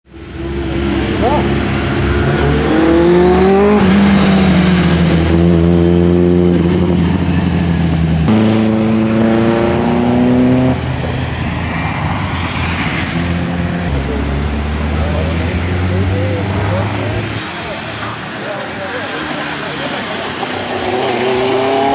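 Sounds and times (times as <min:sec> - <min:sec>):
road noise: 0:00.0 - 0:21.9
car accelerating hard: 0:00.2 - 0:21.9.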